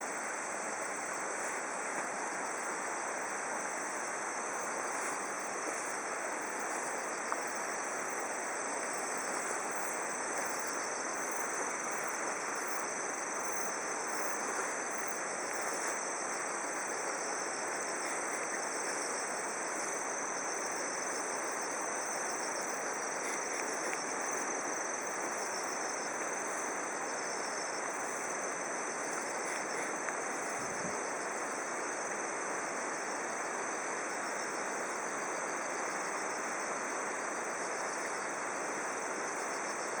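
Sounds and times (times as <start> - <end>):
background hiss: 0.0 - 40.0
crickets trilling: 0.0 - 40.0.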